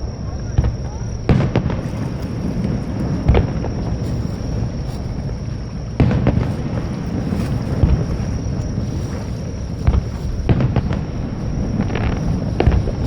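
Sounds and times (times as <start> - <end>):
continuous low rumble: 0.0 - 13.0
firework shells booming: 0.5 - 13.0.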